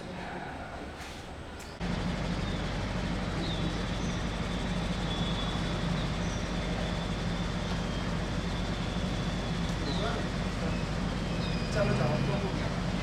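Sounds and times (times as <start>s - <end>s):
low mechanical drone: 1.8s - 13.0s.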